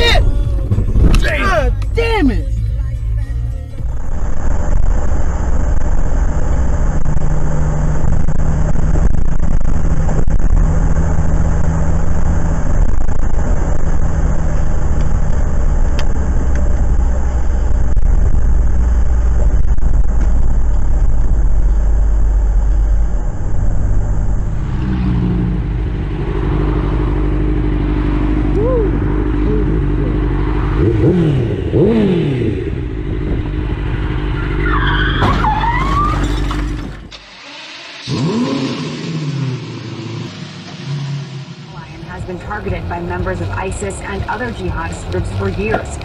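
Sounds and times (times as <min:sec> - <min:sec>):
motorcycle engine running: 0:00.0 - 0:34.3, 0:37.4 - 0:46.0
car road noise on wet highway: 0:00.0 - 0:46.0.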